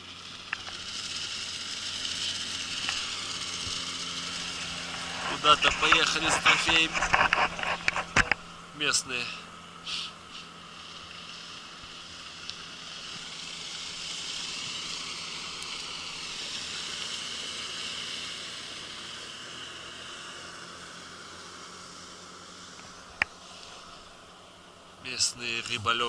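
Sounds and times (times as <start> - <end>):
distant motorboat passing: 0.0 - 25.8.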